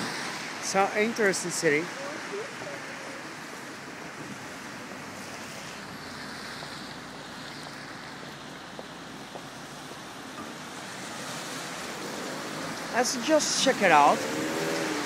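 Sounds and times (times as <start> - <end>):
traffic on wet street: 0.0 - 15.0.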